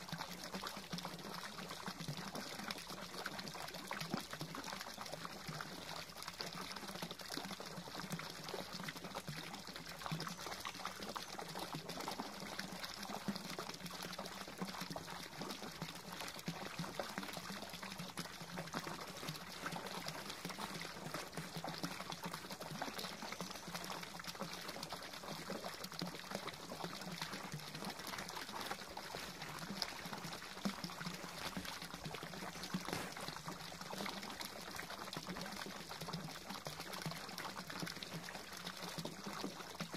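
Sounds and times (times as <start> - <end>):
fountain water splashing onto pond: 0.0 - 39.9.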